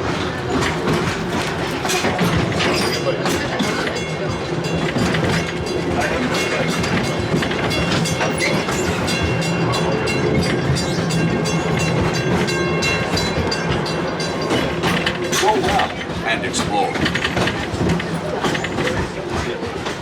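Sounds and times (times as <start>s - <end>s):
train rumble and hum: 0.0s - 20.0s
wheels clicking on rails: 0.0s - 20.0s.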